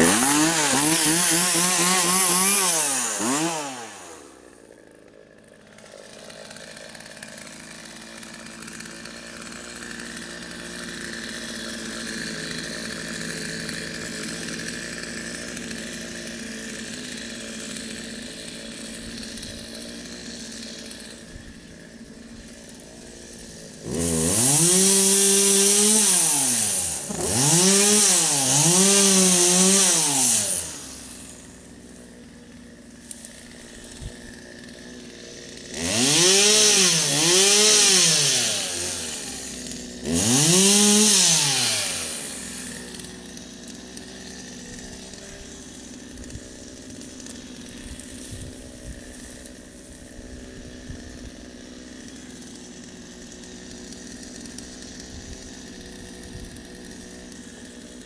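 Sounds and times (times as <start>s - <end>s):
electric chainsaw cutting: 0.0s - 58.0s.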